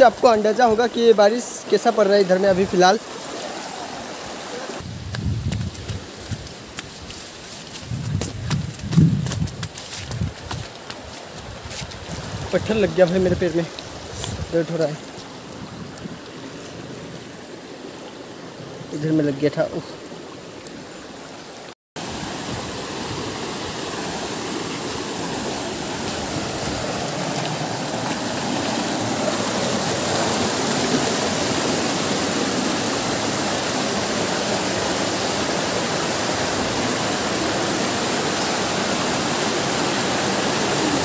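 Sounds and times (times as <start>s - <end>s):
stream rushing over boulders: 0.0s - 41.0s.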